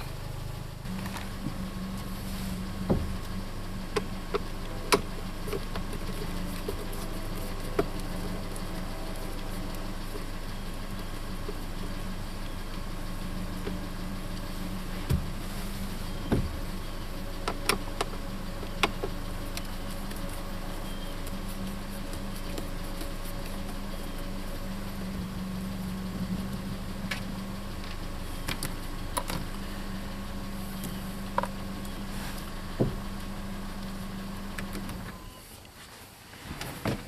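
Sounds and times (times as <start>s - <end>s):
car engine idling: 0.0s - 35.6s.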